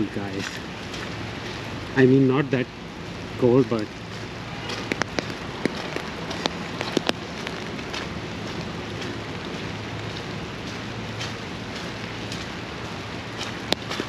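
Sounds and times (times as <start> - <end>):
raindrops ticking: 0.0 - 14.0
steady rain hiss: 0.0 - 14.0.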